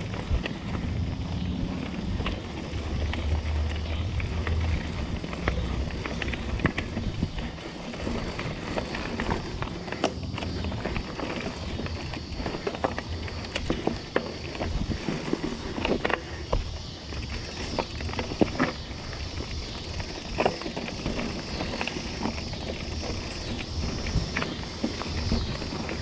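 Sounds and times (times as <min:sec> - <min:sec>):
bike clicking and rattling: 0:00.0 - 0:26.0
tyres rumbling over dirt: 0:00.0 - 0:26.0.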